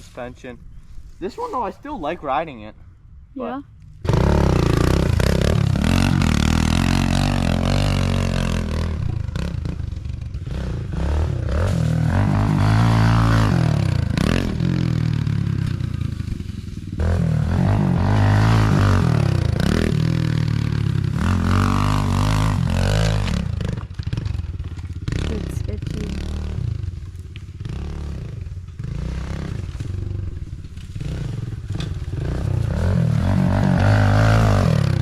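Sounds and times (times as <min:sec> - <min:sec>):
dirt bike engine revving: 0:04.0 - 0:26.9, 0:27.6 - 0:35.0.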